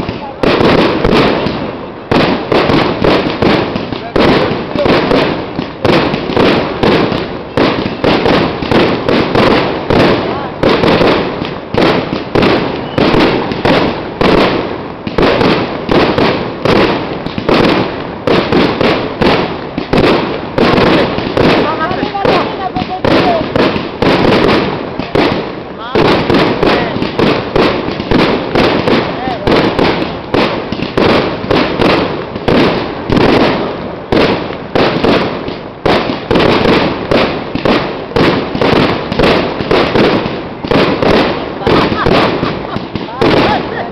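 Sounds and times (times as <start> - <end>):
firework shells bursting: 0.0 - 43.9.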